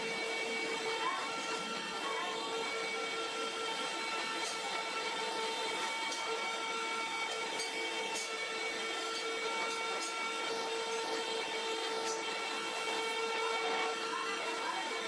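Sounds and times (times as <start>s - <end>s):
grinding wheel grinding knife blade: 0.0s - 15.0s.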